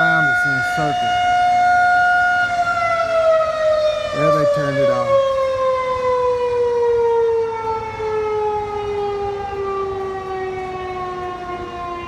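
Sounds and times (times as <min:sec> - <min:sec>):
tornado siren winding down: 0:00.0 - 0:12.0.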